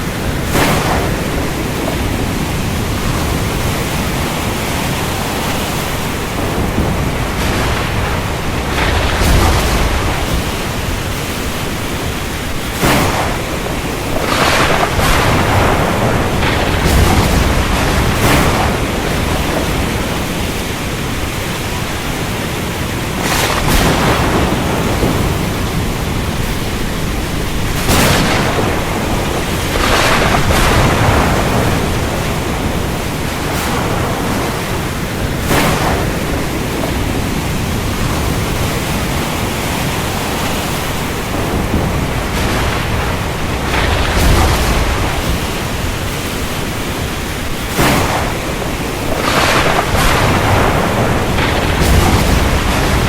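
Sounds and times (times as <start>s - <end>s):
heavy rain: 0.0s - 53.0s
low thunder rumble: 0.0s - 53.0s
thunder cracks: 0.0s - 53.0s.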